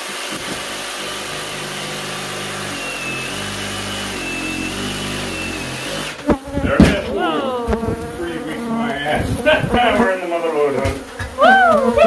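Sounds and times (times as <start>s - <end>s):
power saw cutting: 0.0s - 11.3s.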